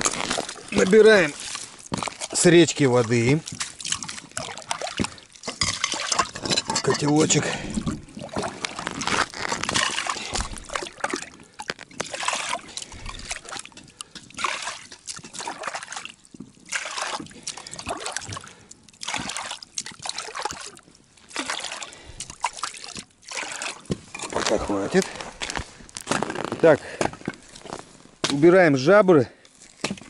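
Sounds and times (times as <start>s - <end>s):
water sloshing as pot fills: 0.0s - 26.1s.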